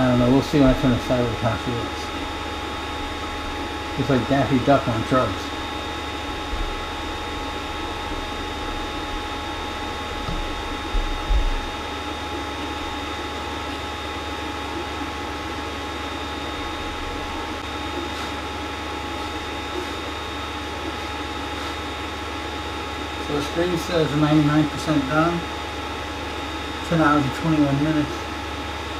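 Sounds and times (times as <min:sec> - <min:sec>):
printer fans and motors humming: 0:00.0 - 0:28.9.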